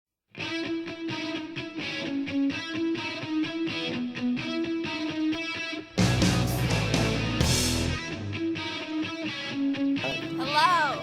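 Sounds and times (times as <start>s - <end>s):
electric guitar riff: 0.4s - 11.0s.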